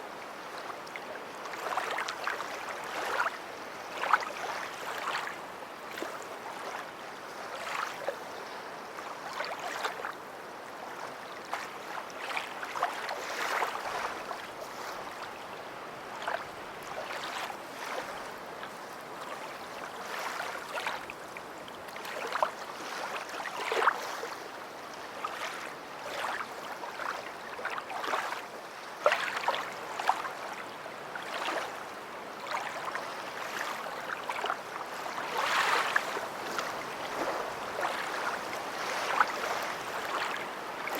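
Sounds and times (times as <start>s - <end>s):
small waves lapping at shore: 0.0s - 40.9s.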